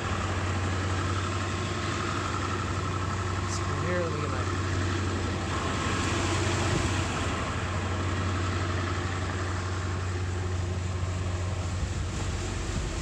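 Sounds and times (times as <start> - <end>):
air conditioning blowing: 0.0 - 13.0
bus engine idling: 0.0 - 13.0.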